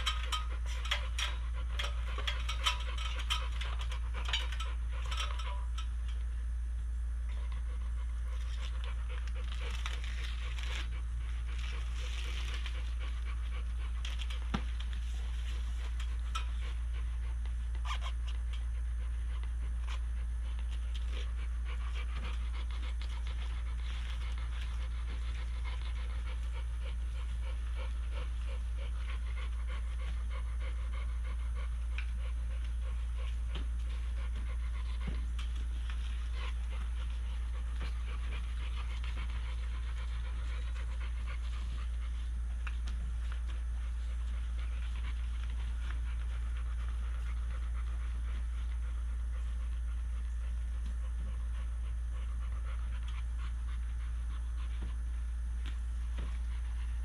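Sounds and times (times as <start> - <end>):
dog panting: 0.0 - 6.3, 7.2 - 57.0.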